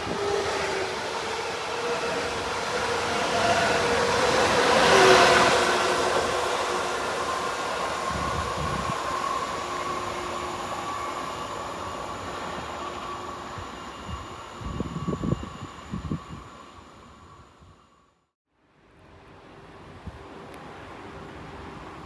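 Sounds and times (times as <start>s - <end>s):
train passing: 0.0s - 18.1s.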